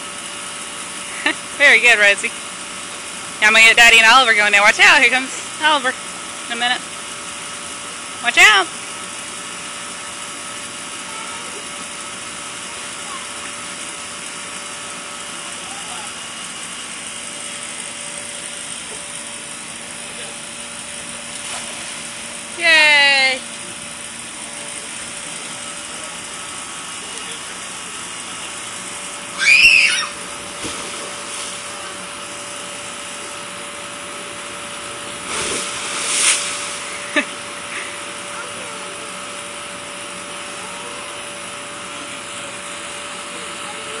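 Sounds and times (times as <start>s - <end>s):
electric air blower whirring: 0.0s - 44.0s.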